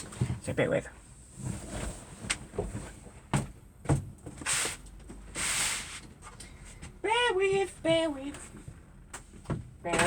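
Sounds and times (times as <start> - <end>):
knocks and bumps inside a van: 0.0 - 5.4, 6.0 - 10.0.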